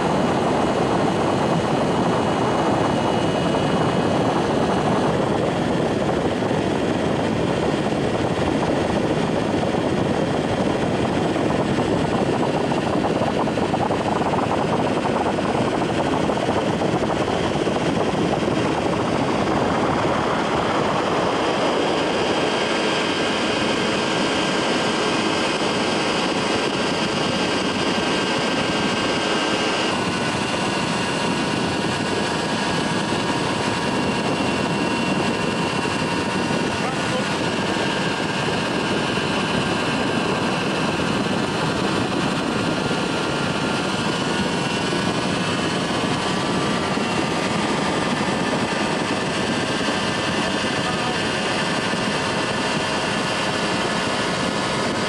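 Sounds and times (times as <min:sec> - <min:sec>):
ultralight aircraft engine: 0:00.0 - 0:55.0
wind noise rushing: 0:00.0 - 0:55.0.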